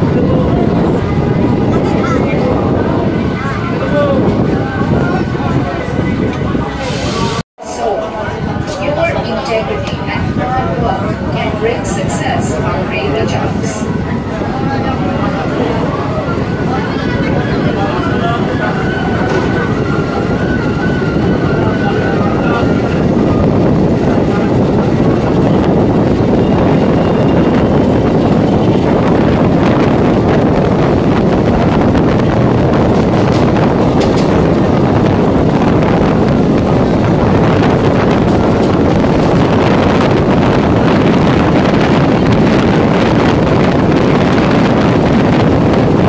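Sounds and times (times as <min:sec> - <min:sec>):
electric train rumble: 0:00.0 - 0:46.0
wind buffeting microphone: 0:00.0 - 0:46.0.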